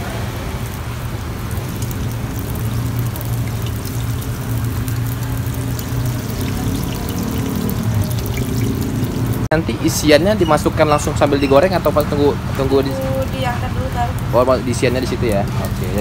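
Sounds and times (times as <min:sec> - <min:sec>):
dough sizzling in hot oil: 0:00.6 - 0:16.0.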